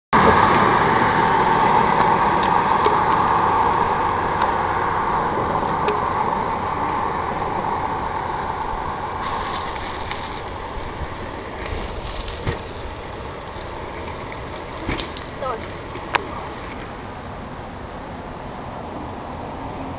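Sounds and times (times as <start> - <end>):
car passing on road: 0.1 - 19.9.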